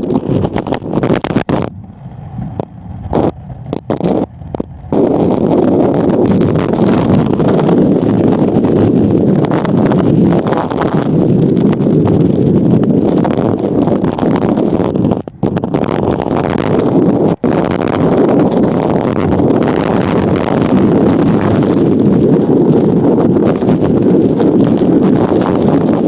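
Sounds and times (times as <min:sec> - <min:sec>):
rc car running noise: 0:00.0 - 0:26.0
wind on microphone: 0:00.0 - 0:26.0.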